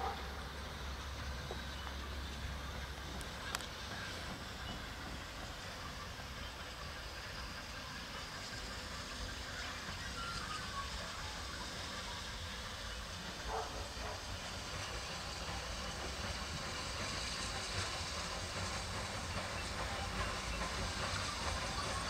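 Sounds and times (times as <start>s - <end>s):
low rumble of train: 0.0s - 22.0s
steam locomotive hissing: 0.0s - 22.0s.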